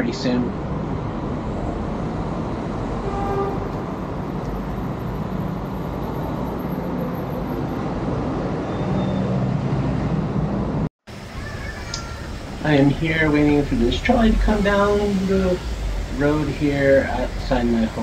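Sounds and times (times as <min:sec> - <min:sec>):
cars driving past: 0:00.0 - 0:11.4, 0:12.2 - 0:18.0.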